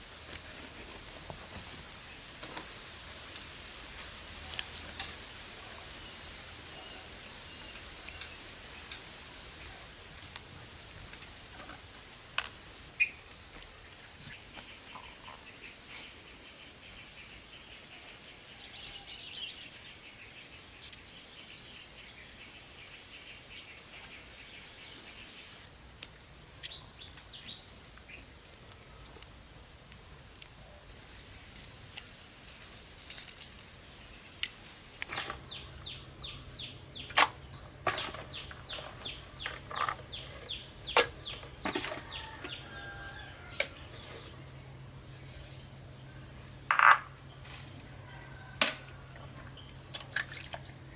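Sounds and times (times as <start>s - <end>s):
faint outdoor background: 0.0s - 50.9s
small birds chirping: 4.3s - 50.9s.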